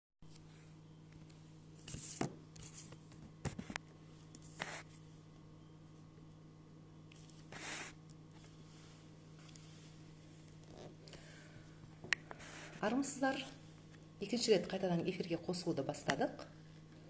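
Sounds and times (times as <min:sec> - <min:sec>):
faint steady hum: 0:00.2 - 0:17.0.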